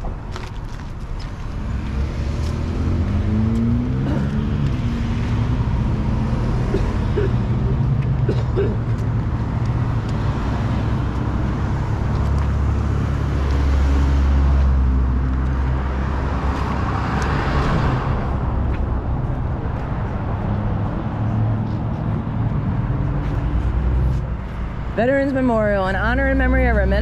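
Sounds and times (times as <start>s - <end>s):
vehicle passing: 1.2s - 27.0s.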